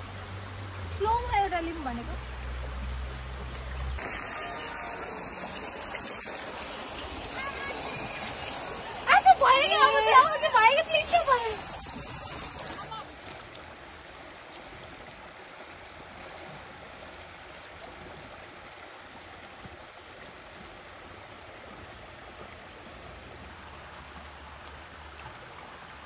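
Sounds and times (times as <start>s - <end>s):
creek water flowing over rocks: 0.0s - 26.0s.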